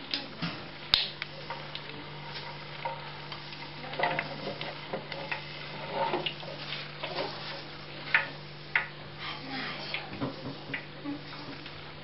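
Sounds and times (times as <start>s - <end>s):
sausages frying in oil: 0.0s - 12.0s.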